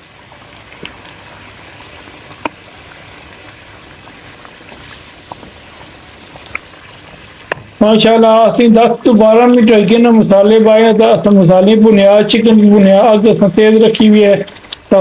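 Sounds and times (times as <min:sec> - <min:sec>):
chicken sizzling in a pot: 0:00.0 - 0:15.0.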